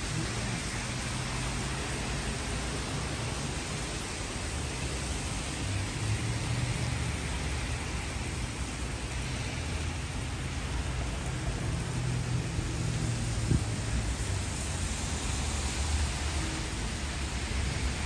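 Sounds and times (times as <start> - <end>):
rain hissing on wet pavement: 0.0 - 18.0.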